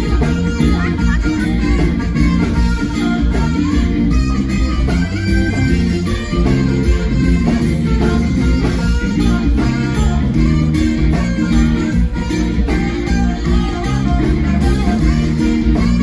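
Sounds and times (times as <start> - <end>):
bass: 0.0 - 16.0
guitar: 0.0 - 16.0
live band playing: 0.0 - 16.0.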